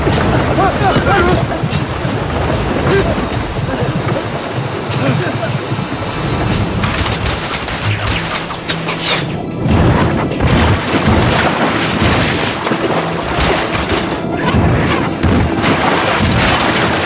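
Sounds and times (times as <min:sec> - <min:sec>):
crashing booms and impacts: 0:00.0 - 0:08.6, 0:09.3 - 0:17.0
dramatic music: 0:00.0 - 0:17.0.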